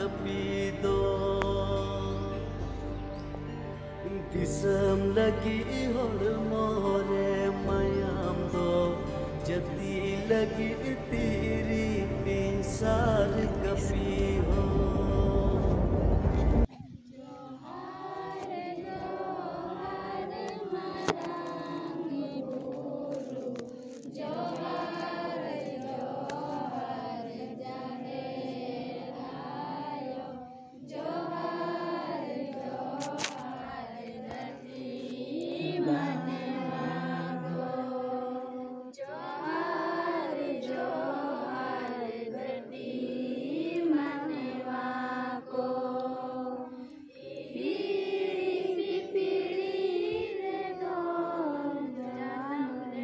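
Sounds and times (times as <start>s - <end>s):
group singing in unison: 0.0s - 53.0s.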